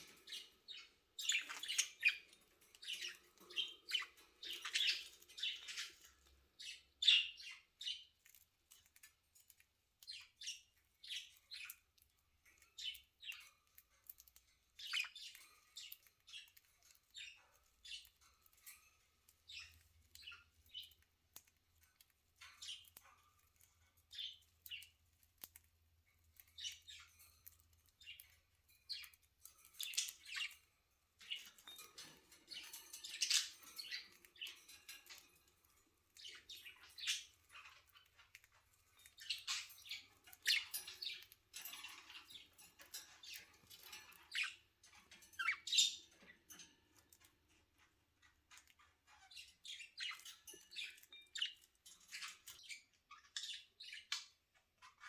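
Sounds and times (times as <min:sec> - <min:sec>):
budgerigars chirping: 0:00.0 - 0:08.4, 0:10.0 - 0:18.6, 0:26.4 - 0:35.3, 0:36.1 - 0:47.6, 0:48.2 - 0:55.0.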